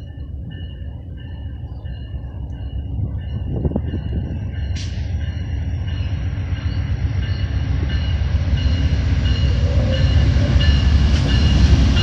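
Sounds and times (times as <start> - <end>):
diesel train rumbling: 0.0 - 12.0.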